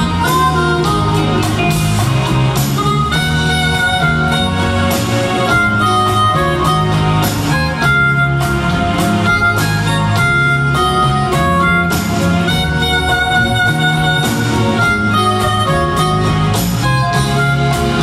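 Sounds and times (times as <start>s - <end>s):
live band instrumental: 0.0s - 18.0s.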